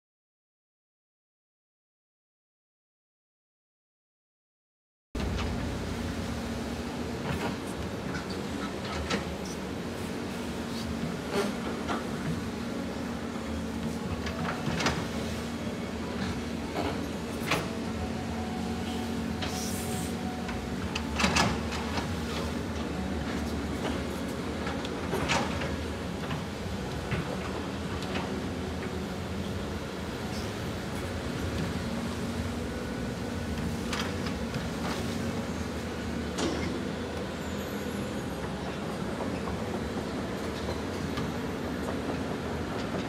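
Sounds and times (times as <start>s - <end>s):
excavator diesel engine running: 5.2s - 43.0s.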